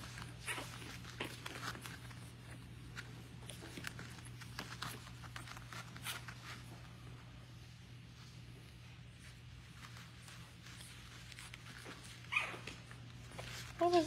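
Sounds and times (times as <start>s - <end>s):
puppies scratching and clicking: 0.0s - 7.3s, 8.1s - 14.0s.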